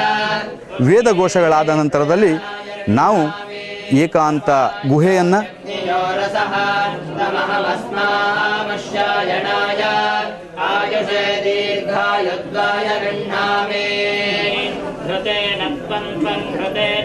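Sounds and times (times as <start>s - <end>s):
voices chanting in unison: 0.0s - 17.0s.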